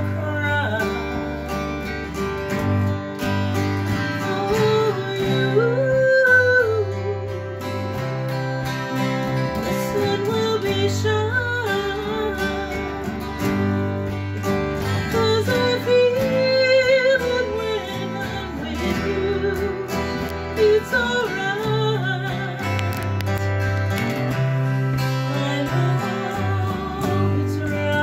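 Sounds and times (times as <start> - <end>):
woman singing: 0.0 - 2.0, 3.9 - 8.2, 9.3 - 13.9, 14.8 - 23.4, 25.0 - 28.0
acoustic guitars playing: 0.0 - 28.0.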